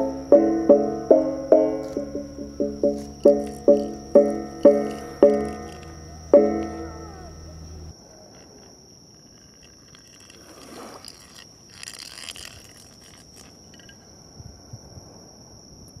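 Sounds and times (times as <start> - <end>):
insect trill: 0.0 - 16.0.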